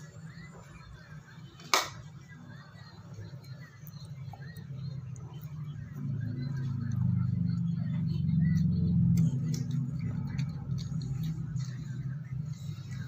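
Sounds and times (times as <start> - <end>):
motor engine humming: 2.5 - 13.0.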